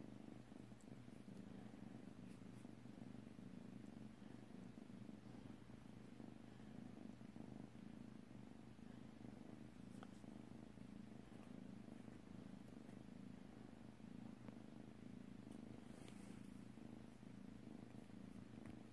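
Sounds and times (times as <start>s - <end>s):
kitten purring: 0.0s - 18.9s.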